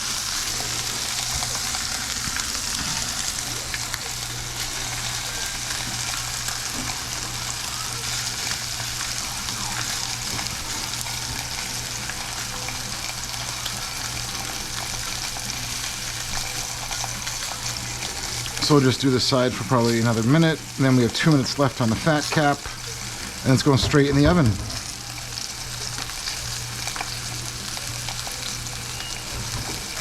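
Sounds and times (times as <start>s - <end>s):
meat sizzling in a pan: 0.0s - 30.0s.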